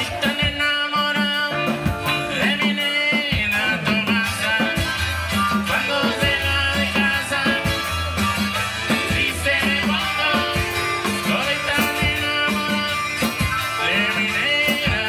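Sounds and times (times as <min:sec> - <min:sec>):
live band playing latin dance music: 0:00.0 - 0:15.0.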